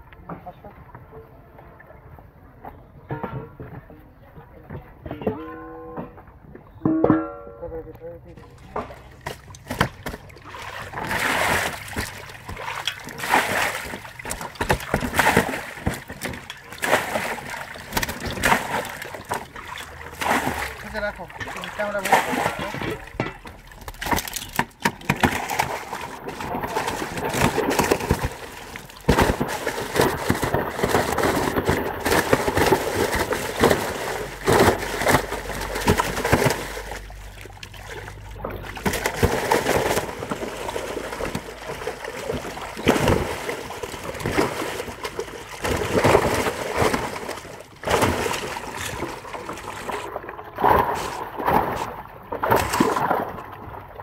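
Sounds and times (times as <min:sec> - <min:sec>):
fish thrashing and splashing water: 0:08.4 - 0:54.0.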